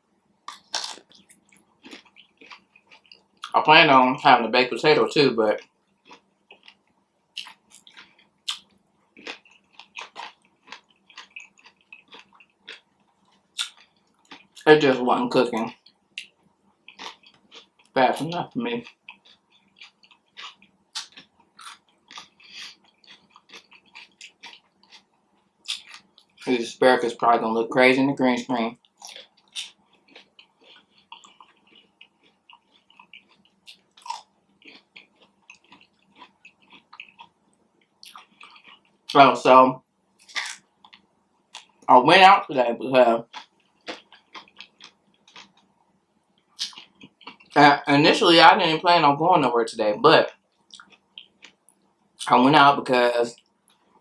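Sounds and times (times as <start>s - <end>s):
person chewing food: 0.4s - 3.6s, 5.4s - 26.5s, 28.4s - 39.2s, 40.2s - 41.9s, 43.0s - 47.7s, 50.3s - 52.3s, 53.4s - 54.0s.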